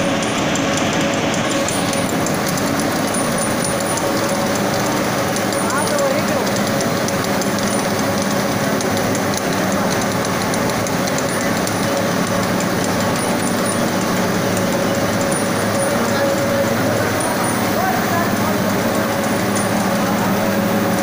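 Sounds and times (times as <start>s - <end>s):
light ticking: 0.0s - 21.0s
machine running noise: 0.0s - 21.0s.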